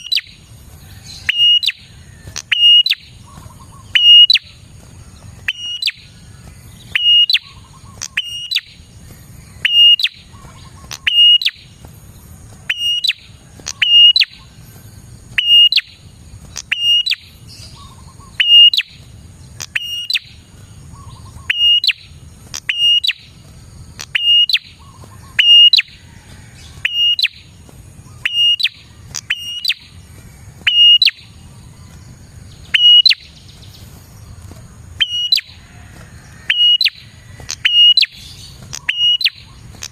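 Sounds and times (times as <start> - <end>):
bird calling sharp high calls: 0.0 - 39.9.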